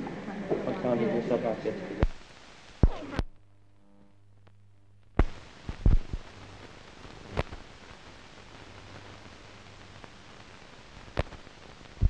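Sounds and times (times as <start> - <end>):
faint low hum: 0.0 - 12.0
steady hiss: 0.0 - 12.0.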